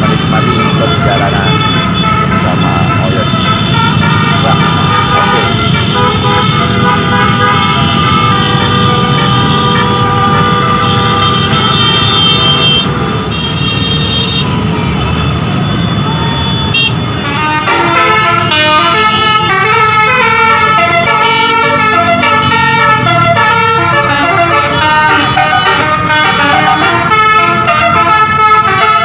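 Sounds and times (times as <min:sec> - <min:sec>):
musical air horn: 0:00.0 - 0:14.5, 0:16.1 - 0:29.0.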